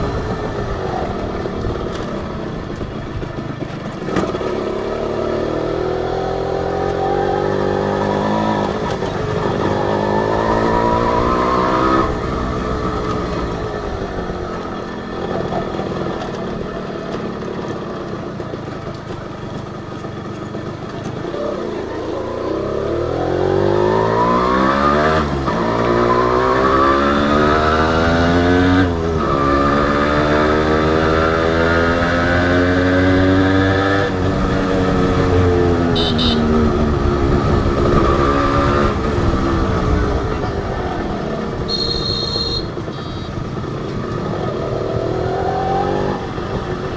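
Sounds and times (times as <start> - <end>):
two-stroke motorcycle engine: 0.0 - 46.9.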